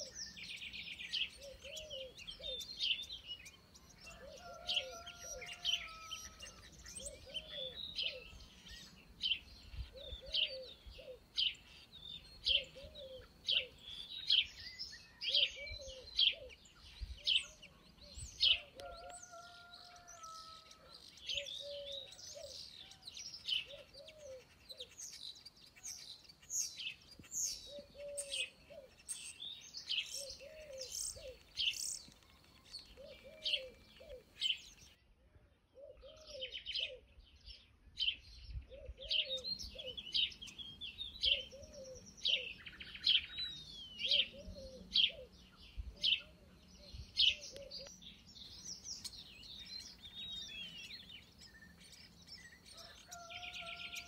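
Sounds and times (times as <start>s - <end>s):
small birds chirping and trilling: 0.0s - 35.0s, 35.6s - 54.0s.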